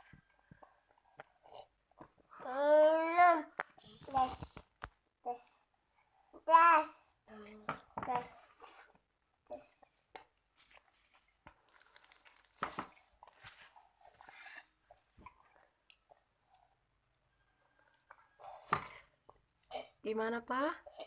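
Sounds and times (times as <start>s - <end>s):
child chewing and slurping: 0.1s - 6.3s, 6.9s - 12.2s, 12.9s - 16.9s, 17.7s - 20.0s.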